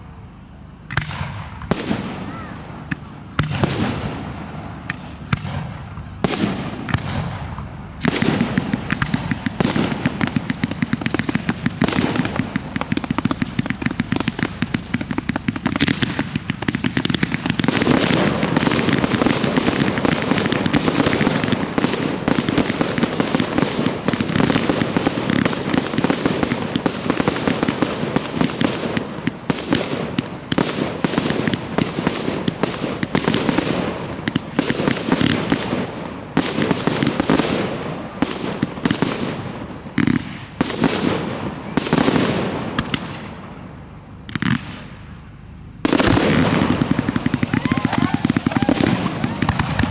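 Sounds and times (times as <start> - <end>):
fireworks bangs and crackle: 0.0 - 49.9.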